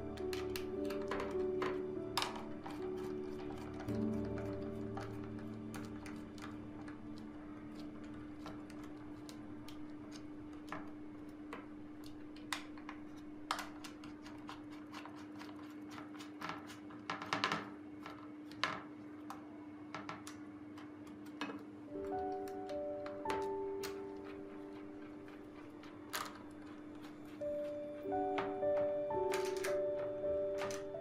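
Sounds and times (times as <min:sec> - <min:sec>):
faint hum: 0:00.0 - 0:16.3, 0:18.0 - 0:31.0.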